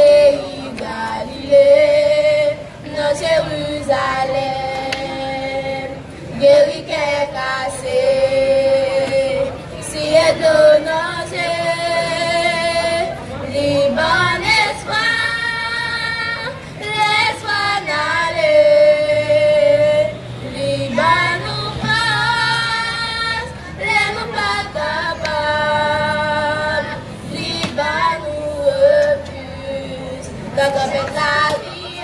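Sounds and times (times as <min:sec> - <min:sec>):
girls singing into a microphone: 0:00.0 - 0:32.0.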